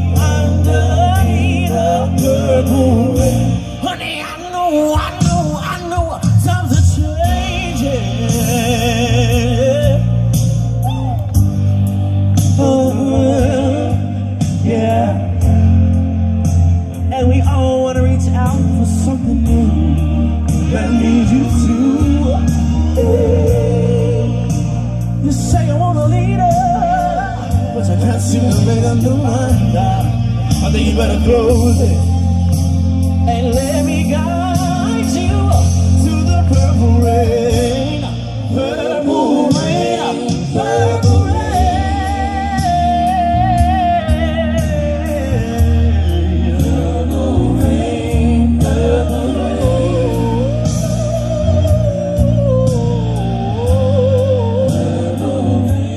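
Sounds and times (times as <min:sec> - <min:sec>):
man singing soul song: 0:00.0 - 0:11.1, 0:12.5 - 0:16.2, 0:17.0 - 0:32.4, 0:33.0 - 0:55.8
sustained bass: 0:00.0 - 0:55.9.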